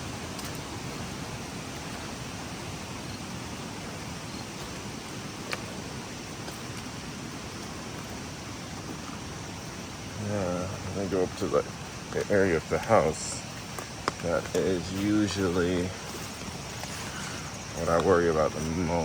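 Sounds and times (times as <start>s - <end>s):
floodwater rushing through creek: 0.0s - 19.0s.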